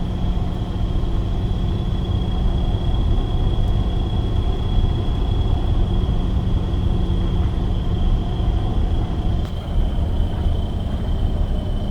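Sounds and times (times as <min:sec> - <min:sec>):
truck engine and road rumble: 0:00.0 - 0:11.9.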